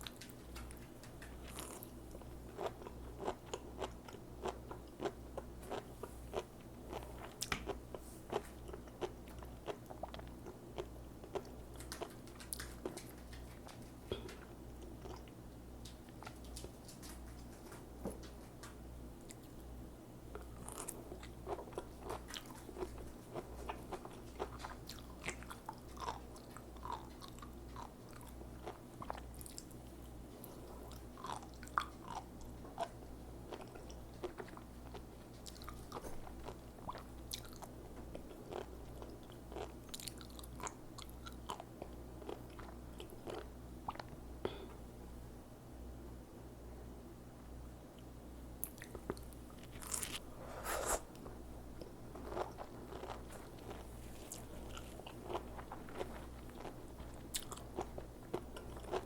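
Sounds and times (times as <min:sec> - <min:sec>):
person chewing crisp food: 0:00.0 - 0:17.8, 0:20.3 - 0:44.6, 0:48.6 - 0:59.0.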